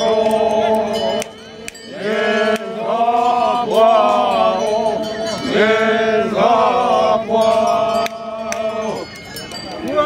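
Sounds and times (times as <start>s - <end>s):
men chanting in a group: 0.0s - 9.1s.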